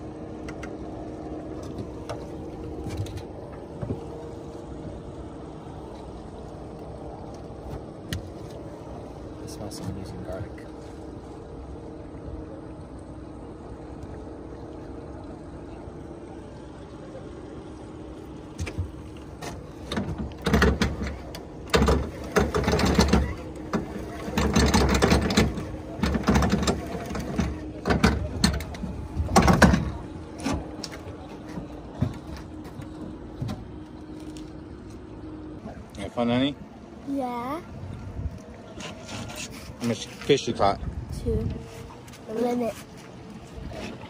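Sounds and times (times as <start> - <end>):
boat motor humming: 0.0 - 44.0.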